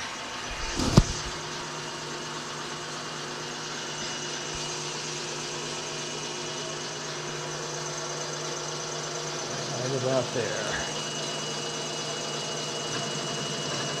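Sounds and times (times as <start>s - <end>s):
milling machine hum: 0.0s - 14.0s.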